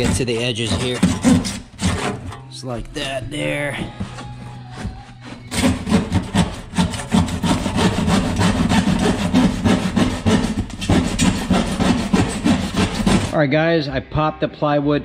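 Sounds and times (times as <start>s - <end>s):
handsaw cutting plywood: 0.0s - 2.5s, 3.4s - 13.4s.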